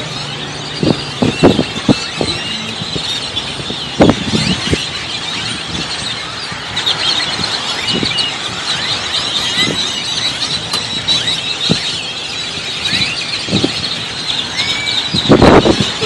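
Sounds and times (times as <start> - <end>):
flock of birds chirping: 0.0 - 16.0.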